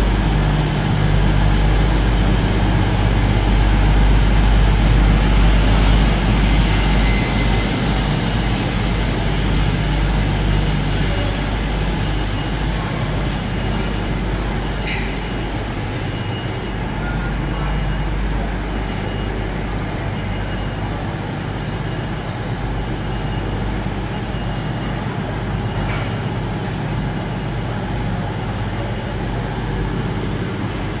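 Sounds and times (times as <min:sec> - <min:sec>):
train hum and rumble: 0:00.0 - 0:31.0.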